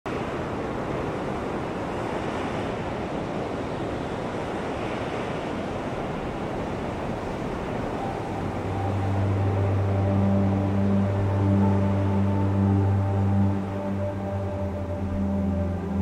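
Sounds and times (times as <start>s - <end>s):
fast-flowing river rushing: 0.1s - 16.0s.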